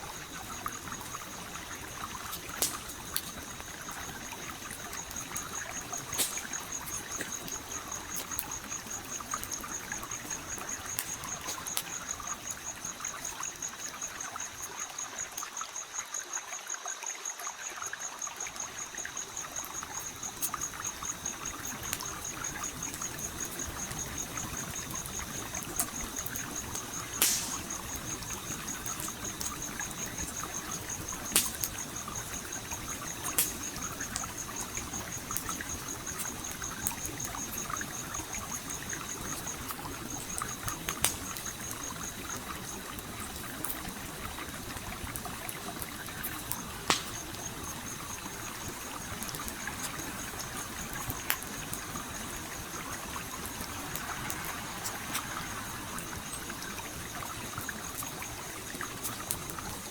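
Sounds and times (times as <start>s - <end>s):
campfire crackling and popping: 0.0s - 15.5s, 18.4s - 59.9s
stream flowing and trickling: 0.0s - 59.9s.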